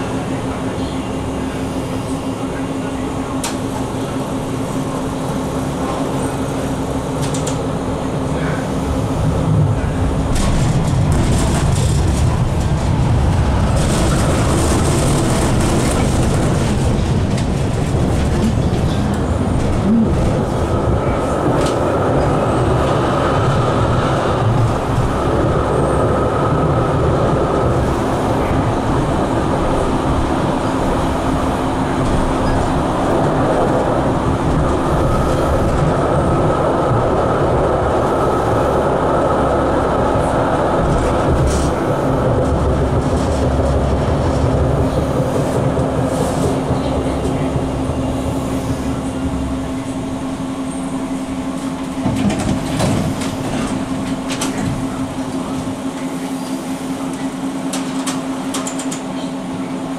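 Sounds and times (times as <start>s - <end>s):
tram wheels rumbling on rail: 0.0s - 59.9s.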